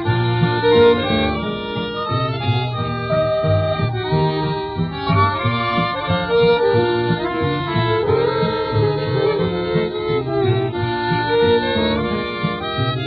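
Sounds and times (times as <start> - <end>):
country music with fiddle: 0.0 - 13.0.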